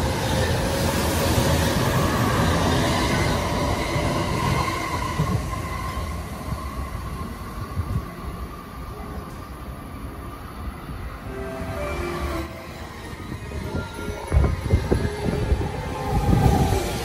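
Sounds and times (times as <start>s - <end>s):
train wheels rumbling on rails: 0.0s - 9.9s, 12.6s - 17.0s
electric train passing: 0.0s - 17.0s.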